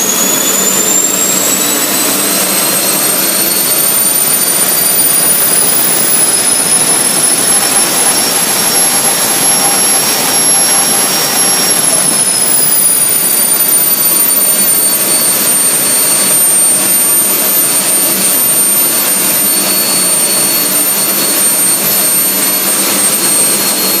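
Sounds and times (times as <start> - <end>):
engine roaring: 0.0 - 24.0
high engine whine: 0.0 - 24.0.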